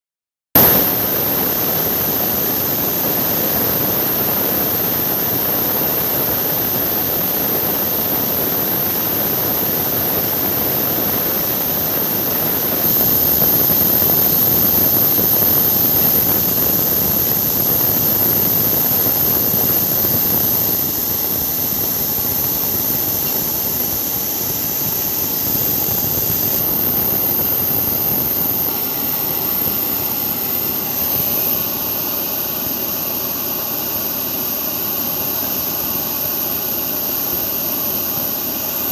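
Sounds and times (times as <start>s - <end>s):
jet engines running with whine: 0.6s - 38.9s.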